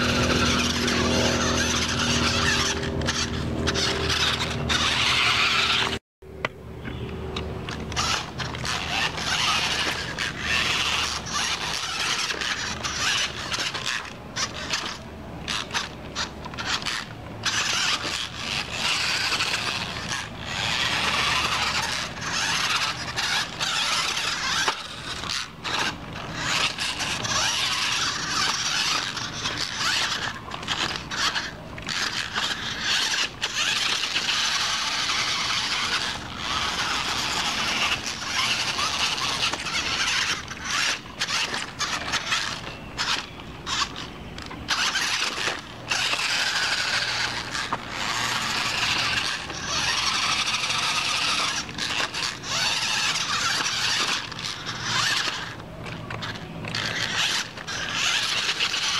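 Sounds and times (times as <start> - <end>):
toy electric motor whining: 0.0 - 6.0, 7.0 - 58.9.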